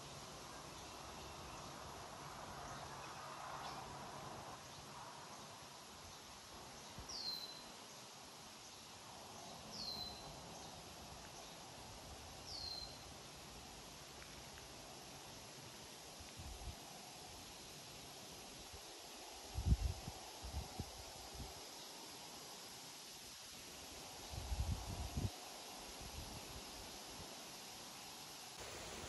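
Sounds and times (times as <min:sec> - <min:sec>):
faint outdoor hiss: 0:00.0 - 0:29.0.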